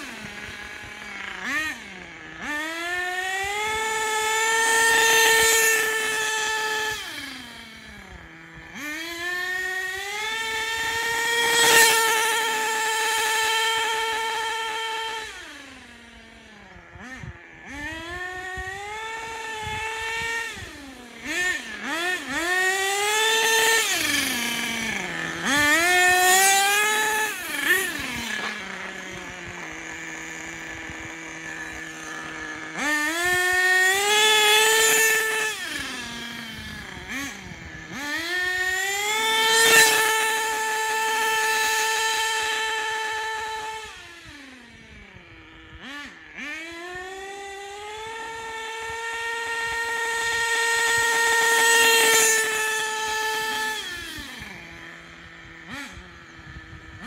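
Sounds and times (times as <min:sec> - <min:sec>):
model engine revving: 0:00.0 - 0:57.0.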